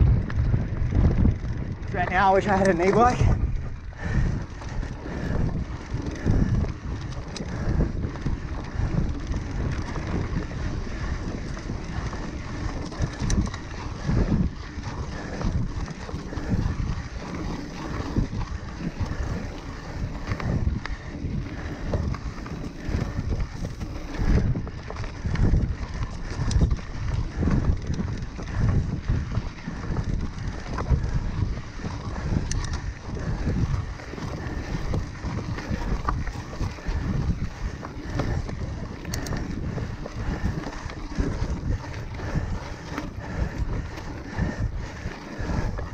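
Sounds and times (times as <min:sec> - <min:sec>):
bike rumbling and rattling on dirt: 0:00.0 - 0:45.9
wind buffeting microphone: 0:00.0 - 0:45.9.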